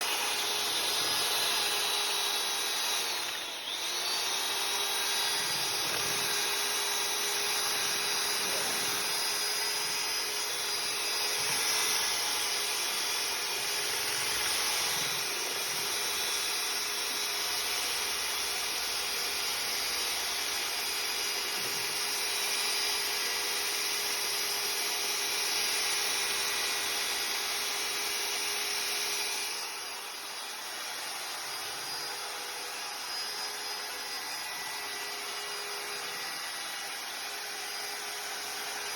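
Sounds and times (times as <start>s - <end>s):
electric power tool motor: 0.0s - 38.9s.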